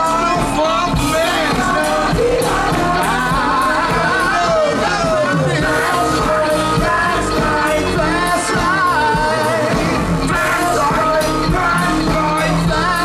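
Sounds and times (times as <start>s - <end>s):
live funk band playing: 0.0s - 13.0s
person singing: 0.0s - 13.0s.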